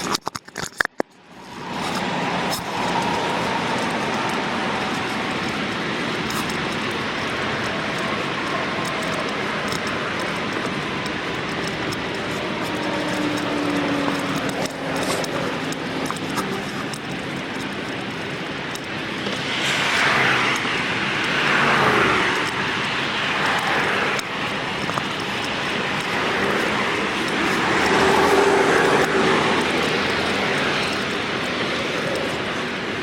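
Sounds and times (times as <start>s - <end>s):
vehicles passing: 0.8s - 33.0s.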